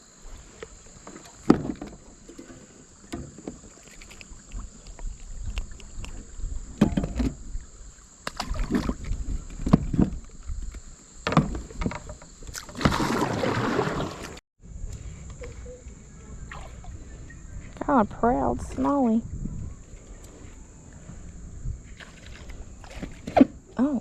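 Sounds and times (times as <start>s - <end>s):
water moving around boat: 0.0s - 14.4s, 15.0s - 24.0s.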